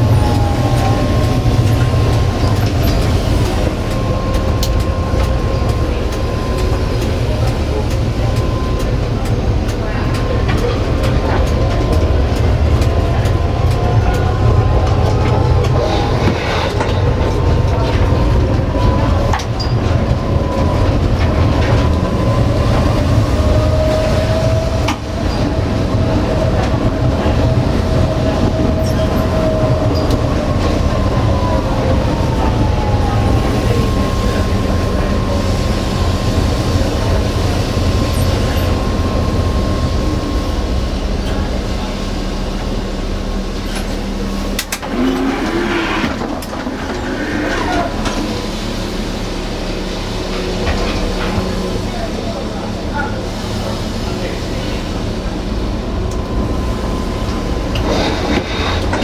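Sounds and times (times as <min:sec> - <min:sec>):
tram motor whine: 0:00.0 - 0:59.0
tram wheels rumbling on rail: 0:00.0 - 0:59.0.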